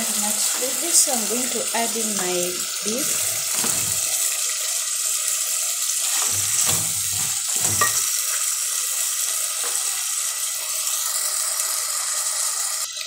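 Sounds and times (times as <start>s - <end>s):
stew sizzling in a pot: 0.0s - 13.0s.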